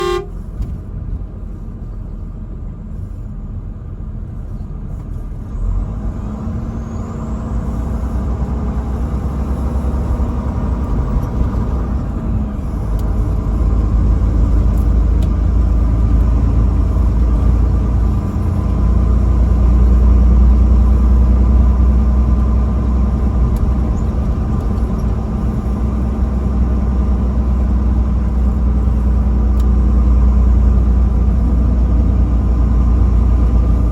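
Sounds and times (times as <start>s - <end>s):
vehicle engine rumbling: 0.0s - 33.9s.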